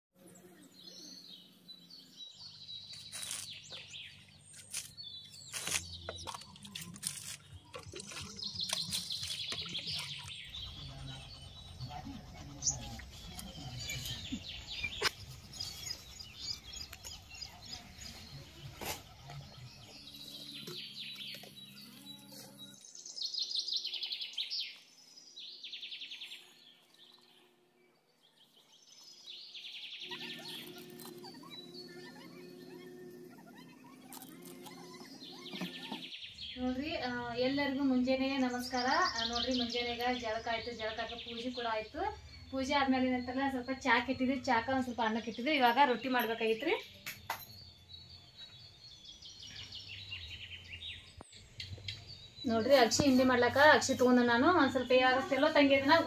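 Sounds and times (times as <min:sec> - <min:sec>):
birds chirping: 0:00.2 - 0:56.0.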